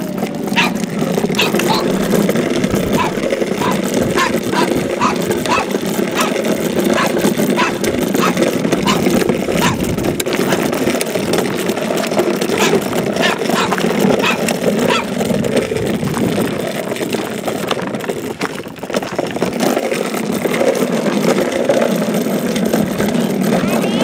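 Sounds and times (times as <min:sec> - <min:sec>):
plastic wheels rolling on asphalt: 0:00.0 - 0:24.0.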